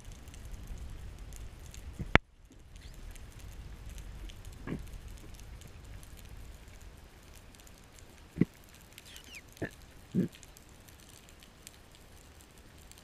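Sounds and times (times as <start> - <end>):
crackling clicks: 0.0 - 13.0
underwater rumble of moving water: 0.0 - 13.0.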